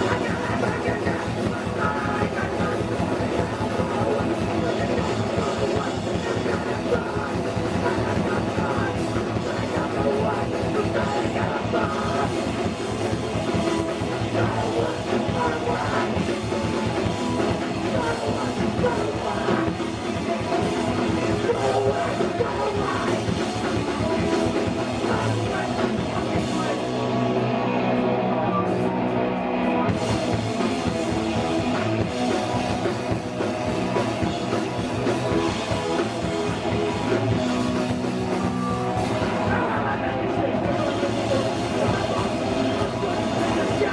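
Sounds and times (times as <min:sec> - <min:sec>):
punk band playing live: 0:00.0 - 0:43.9.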